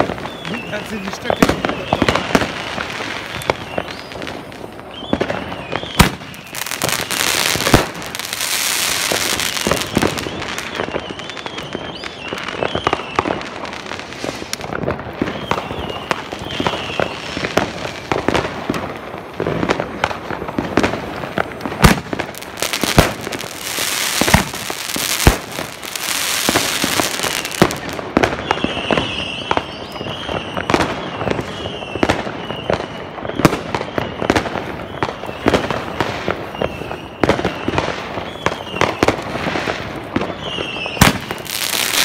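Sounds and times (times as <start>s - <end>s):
fireworks crackling and hissing: 0.0s - 42.0s
sharp firework bangs: 0.0s - 42.0s.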